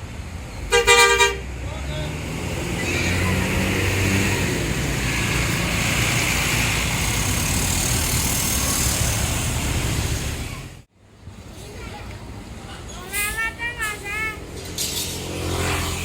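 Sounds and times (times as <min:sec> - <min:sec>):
bus engine rumble: 0:00.0 - 0:16.0
road noise: 0:00.0 - 0:16.0.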